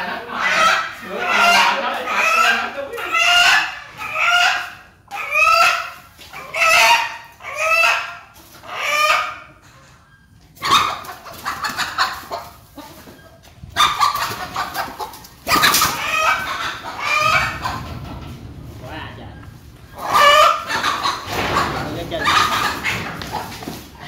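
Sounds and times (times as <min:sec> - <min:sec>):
chickens squawking: 0:00.0 - 0:24.0.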